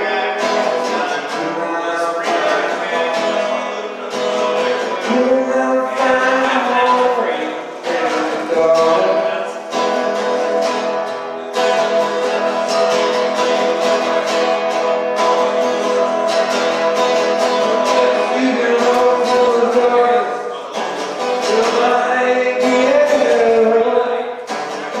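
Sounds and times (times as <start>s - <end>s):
person singing: 0.0s - 11.0s, 11.6s - 25.0s
acoustic guitar strumming: 0.0s - 25.0s.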